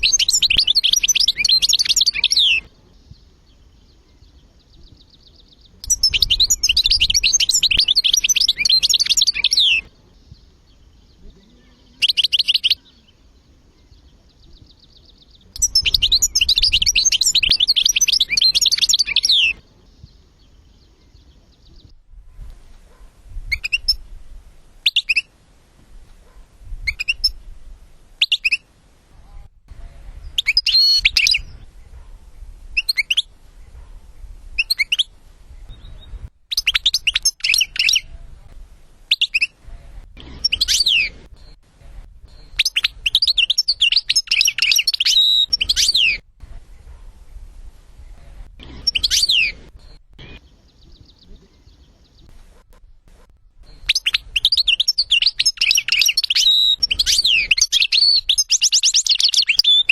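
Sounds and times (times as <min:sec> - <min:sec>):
bird twittering and trilling: 0:00.0 - 0:25.3, 0:26.2 - 0:27.6, 0:29.8 - 0:38.2, 0:39.1 - 0:59.9.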